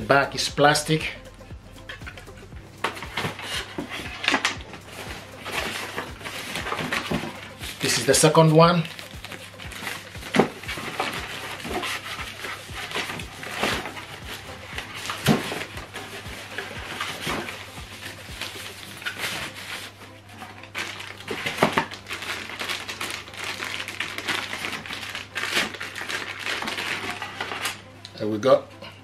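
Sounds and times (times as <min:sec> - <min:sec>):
plastic packaging rustling: 0:02.8 - 0:27.9.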